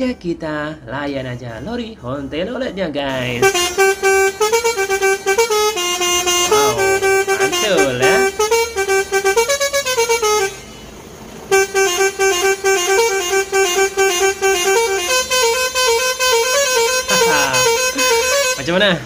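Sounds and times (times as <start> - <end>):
multi-tone truck horn tune: 3.1 - 19.0.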